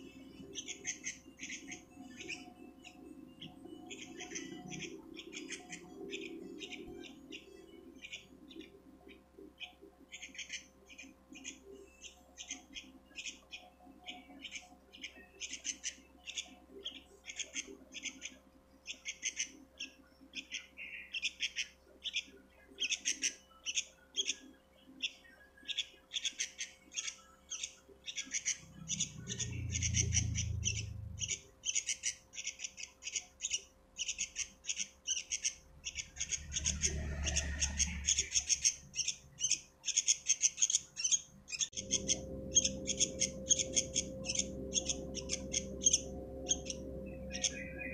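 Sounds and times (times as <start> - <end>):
bird chicks chirping: 0.0 - 47.9
faint steady hum: 0.0 - 47.9.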